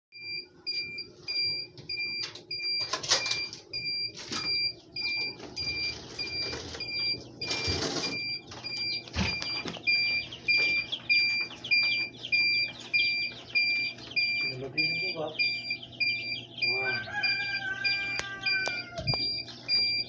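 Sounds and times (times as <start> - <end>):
short high alarm beeps: 0.2 - 20.0.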